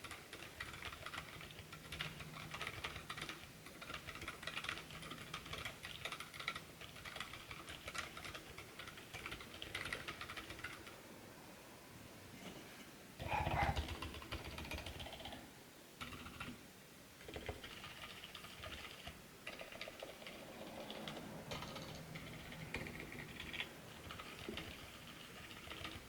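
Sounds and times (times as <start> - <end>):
typing on mechanical keyboard: 0.0 - 11.0, 13.5 - 15.4, 16.0 - 16.5, 17.2 - 26.0.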